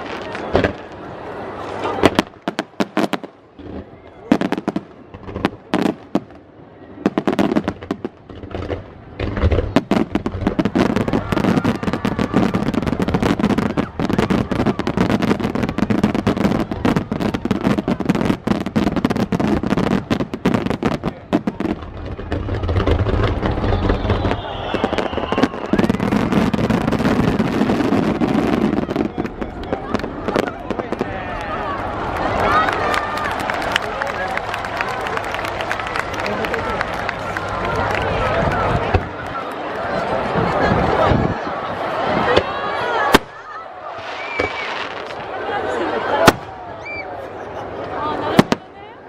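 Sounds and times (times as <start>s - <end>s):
fireworks bursting: 0.0s - 48.8s
fireworks crackling: 0.0s - 48.9s.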